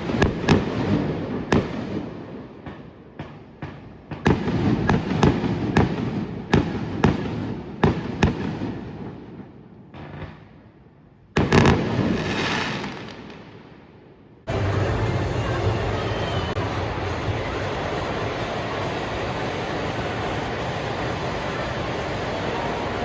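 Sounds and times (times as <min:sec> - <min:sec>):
fireworks crackling: 0:00.0 - 0:10.7, 0:11.3 - 0:23.0
fireworks bangs with echoes: 0:00.0 - 0:23.0.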